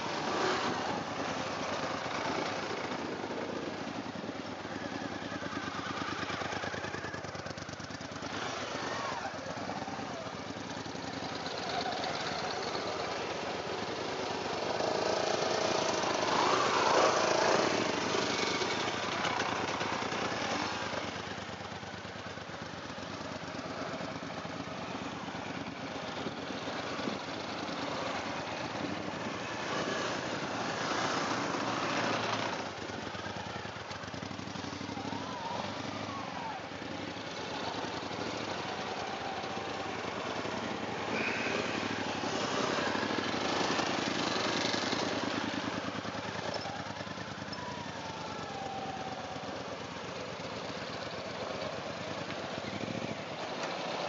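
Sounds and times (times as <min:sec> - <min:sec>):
motorcycle engines passing: 0:00.0 - 0:54.0.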